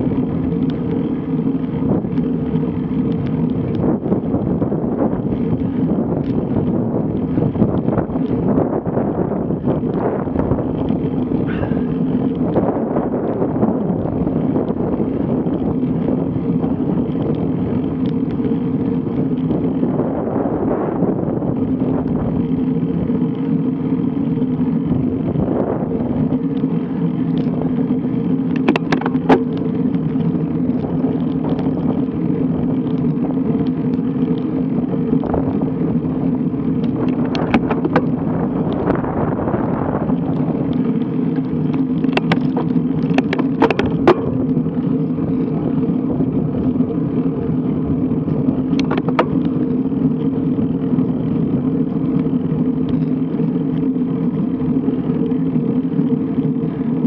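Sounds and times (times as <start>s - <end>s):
constant hum: 0.0s - 57.0s
tyre rumble: 0.0s - 57.0s.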